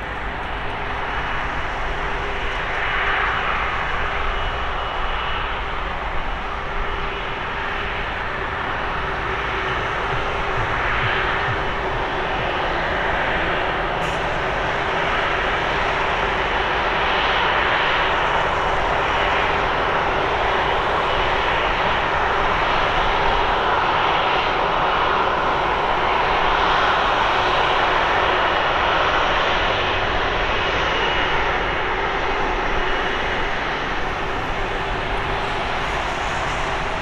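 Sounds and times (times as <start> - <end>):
high jet whine: 0.0 - 37.0
jet engines running: 0.0 - 37.0.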